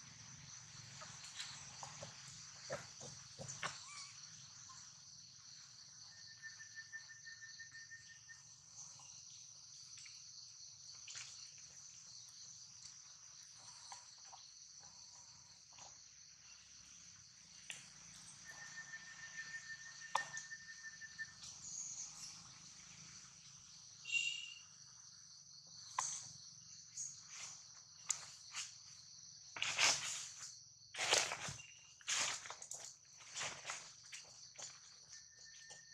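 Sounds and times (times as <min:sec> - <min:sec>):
insects chirring: 0:00.0 - 0:35.9.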